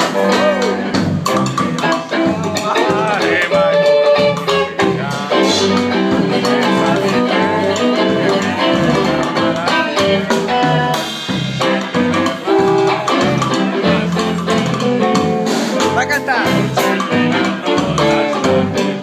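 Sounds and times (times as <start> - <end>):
drum kit: 0.0 - 19.0
electric guitar: 0.0 - 19.0.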